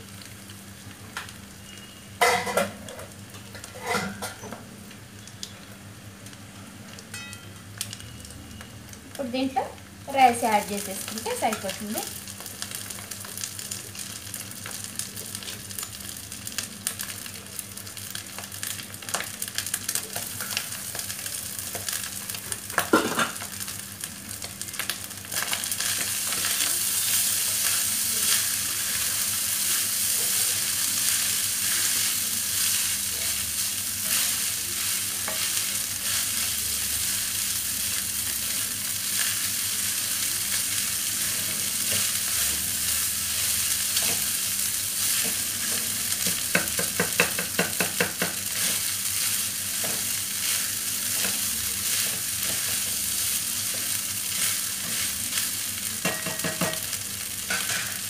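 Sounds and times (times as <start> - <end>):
rice sizzling in a pan: 0.0 - 58.0.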